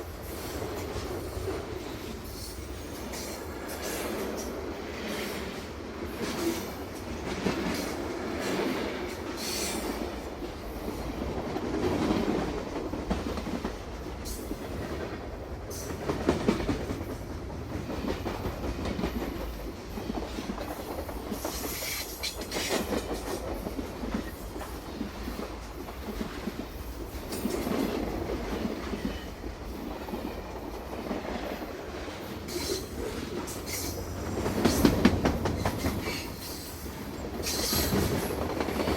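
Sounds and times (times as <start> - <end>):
train rumbling on rails: 0.0 - 38.9
train wheel clacks: 0.0 - 38.9.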